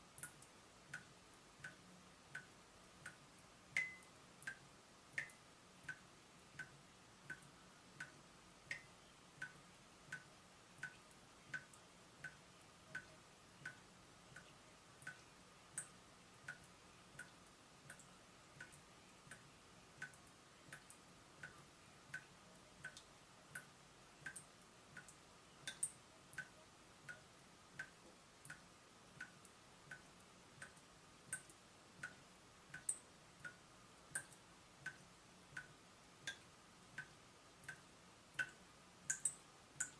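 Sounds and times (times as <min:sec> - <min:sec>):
water dripping from tap: 0:00.2 - 0:01.8, 0:02.4 - 0:28.6, 0:29.2 - 0:39.9.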